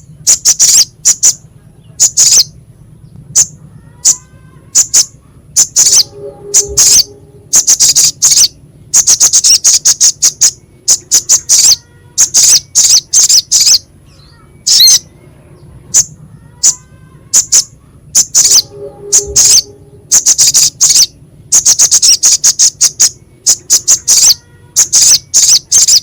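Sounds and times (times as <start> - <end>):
bird calling harsh high chips: 0.0 - 2.6, 3.3 - 26.0.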